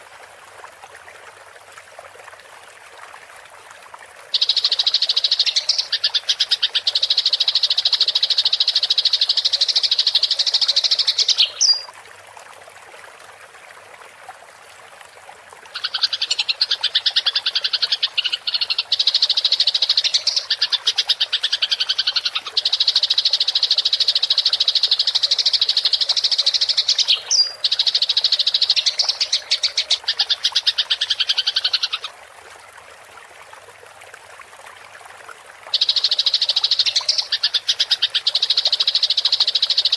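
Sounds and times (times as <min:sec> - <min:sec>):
faint running water hiss: 0:00.0 - 0:39.9.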